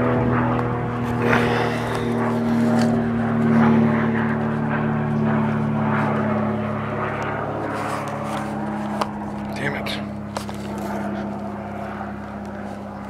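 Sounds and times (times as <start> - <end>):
propeller airplane engine drone: 0.0 - 13.0.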